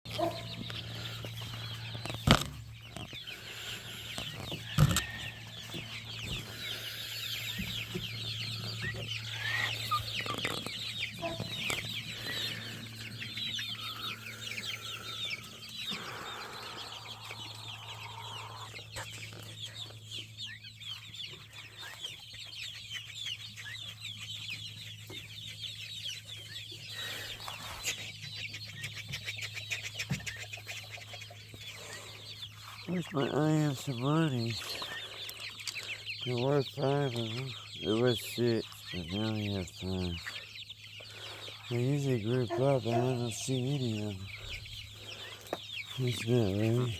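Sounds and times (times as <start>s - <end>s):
chickens clucking and chirping: 0.1s - 46.9s.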